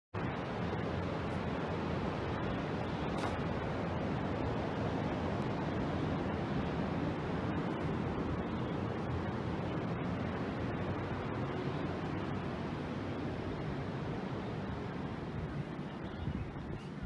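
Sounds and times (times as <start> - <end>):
steady rushing noise: 0.2 - 17.0.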